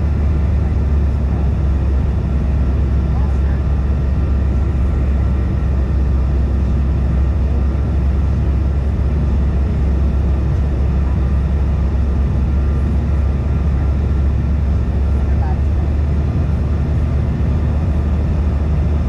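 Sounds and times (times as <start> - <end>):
faint engine whine: 0.0 - 19.0
jet cabin rumble: 0.0 - 19.0.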